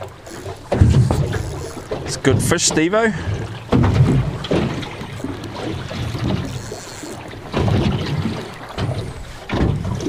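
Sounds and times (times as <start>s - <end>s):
water lapping against boat hull: 0.0s - 10.0s.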